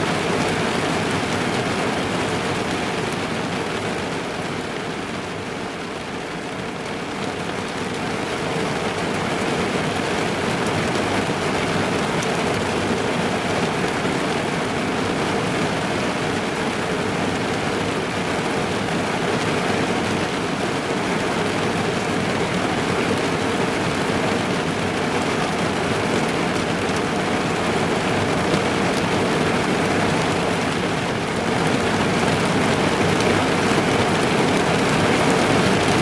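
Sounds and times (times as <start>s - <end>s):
rain on a car roof: 0.0s - 36.0s.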